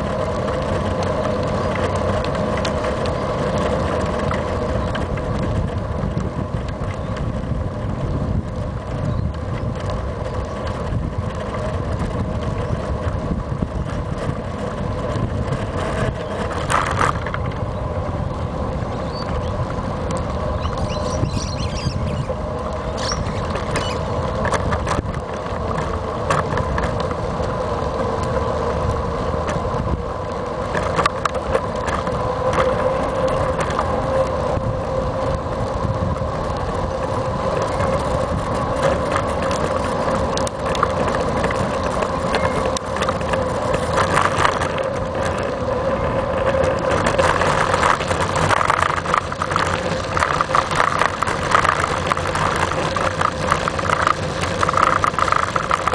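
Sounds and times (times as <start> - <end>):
bike riding rumble: 0.0 - 55.9.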